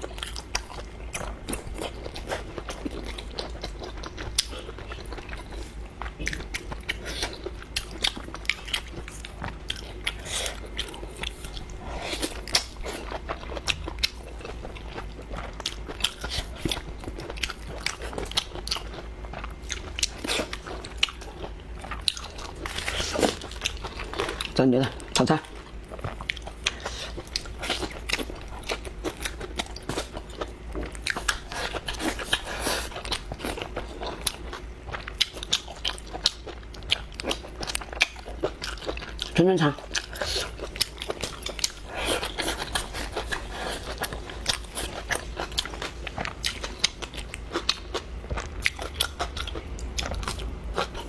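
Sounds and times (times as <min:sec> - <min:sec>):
person chewing crunchy food: 0:00.0 - 0:51.0.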